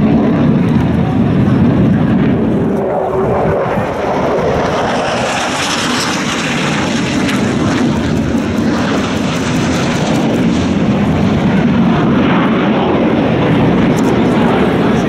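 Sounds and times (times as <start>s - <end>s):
jet roaring by: 0.0s - 15.0s.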